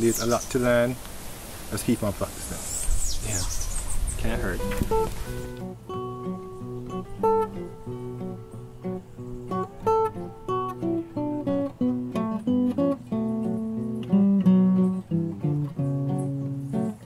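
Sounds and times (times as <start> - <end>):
acoustic guitar melody: 2.9 - 17.0.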